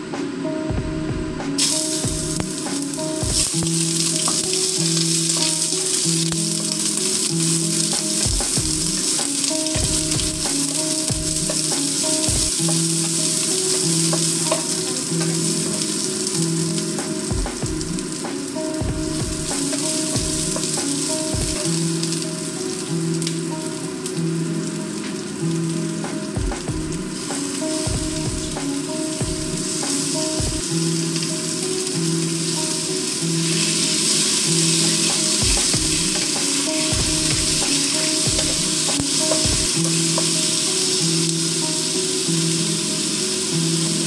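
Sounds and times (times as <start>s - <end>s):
food sizzling in hot oil: 1.6s - 44.0s.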